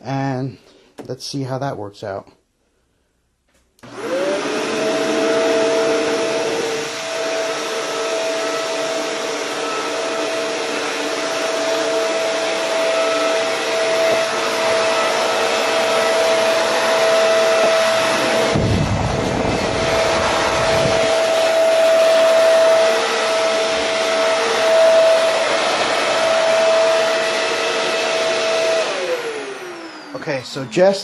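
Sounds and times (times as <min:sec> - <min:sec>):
vacuum cleaner motor whining: 0:03.8 - 0:31.0.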